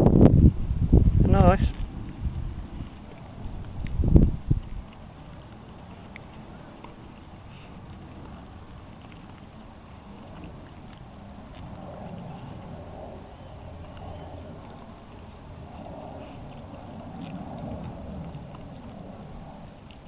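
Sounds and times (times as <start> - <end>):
steady background hiss: 0.1 - 20.0
fox crunching biscuits: 1.7 - 20.0.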